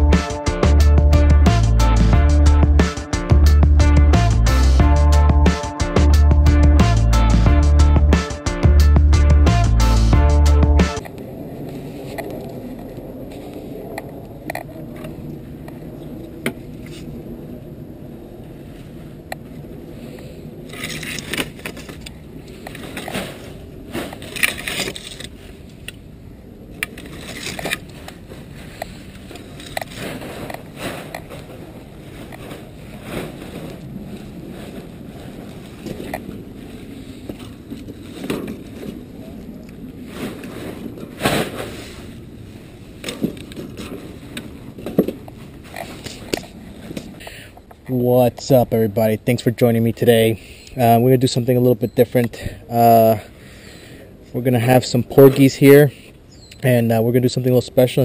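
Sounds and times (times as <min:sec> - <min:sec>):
steady low rumble: 0:00.0 - 0:50.4.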